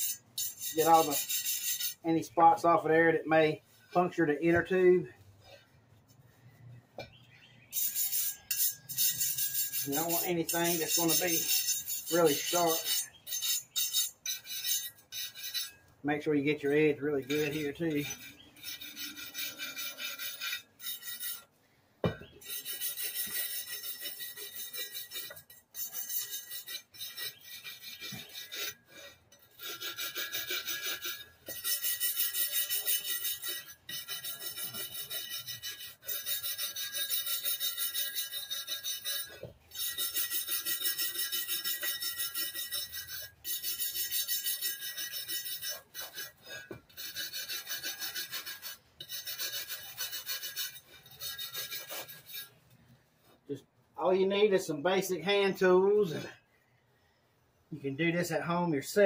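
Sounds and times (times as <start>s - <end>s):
wire brush scrubbing steel rim: 0.0s - 5.2s, 7.7s - 21.6s, 22.4s - 52.6s.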